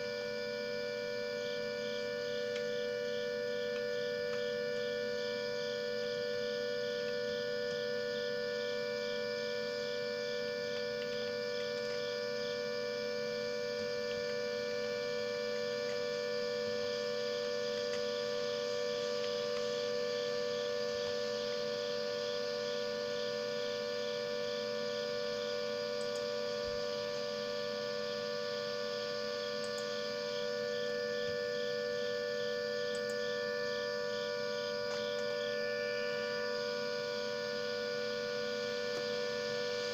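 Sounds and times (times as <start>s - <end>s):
steady siren tone: 0.0s - 39.9s.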